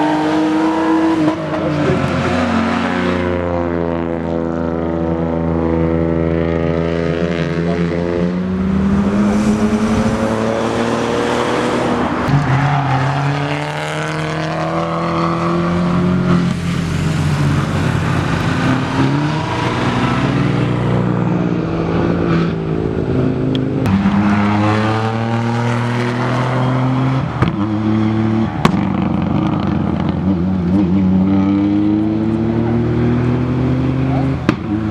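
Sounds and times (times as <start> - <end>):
rally car engines revving: 0.0 - 34.9.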